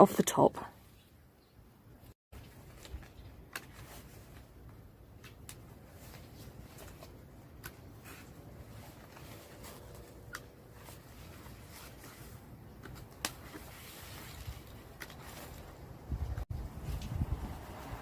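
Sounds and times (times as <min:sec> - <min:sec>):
leaves rustling: 0:02.3 - 0:18.0.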